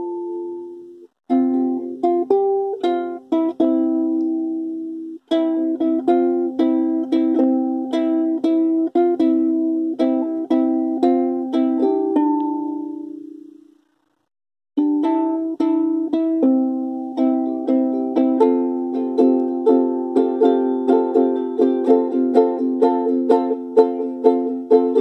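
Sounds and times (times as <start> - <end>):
ukulele strummed chords: 0.0 - 13.7, 14.8 - 25.0.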